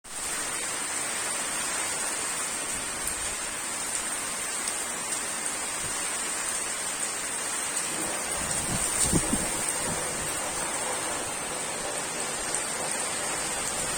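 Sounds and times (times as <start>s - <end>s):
rain falling on pond water: 0.1s - 13.9s.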